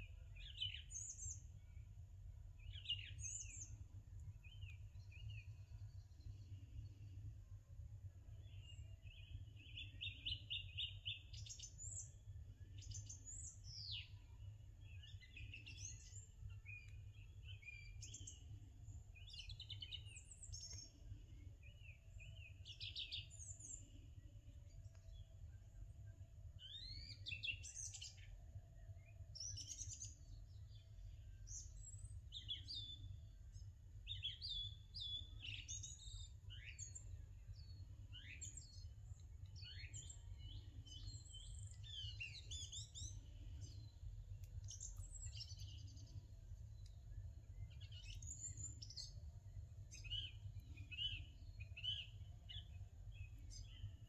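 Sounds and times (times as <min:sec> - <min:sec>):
small birds chirping: 0:00.0 - 0:01.8, 0:02.6 - 0:07.2, 0:08.4 - 0:25.3, 0:29.0 - 0:54.0.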